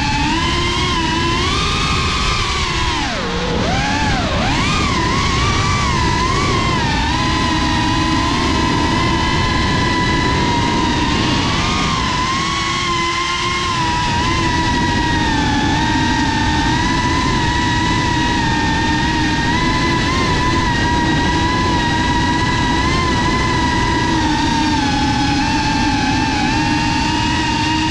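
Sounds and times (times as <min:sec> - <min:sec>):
quadcopter motors whining: 0:00.0 - 0:27.9
steady rushing noise: 0:00.0 - 0:27.9.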